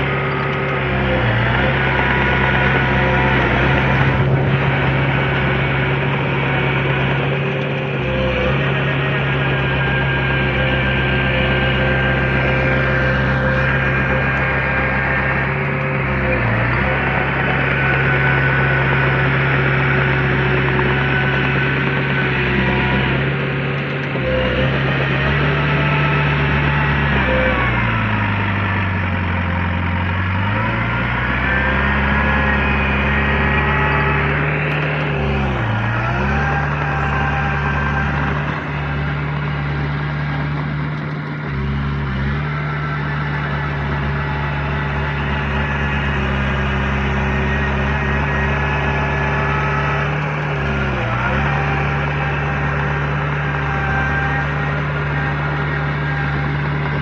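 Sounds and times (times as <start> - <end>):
diesel engine of heavy machinery: 0.0 - 57.0.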